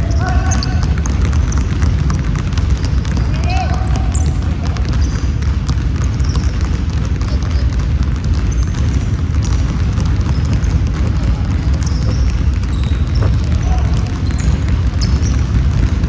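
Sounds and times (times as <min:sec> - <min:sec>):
basketball bouncing: 0:00.0 - 0:16.0
sneaker squeaks: 0:00.0 - 0:16.0.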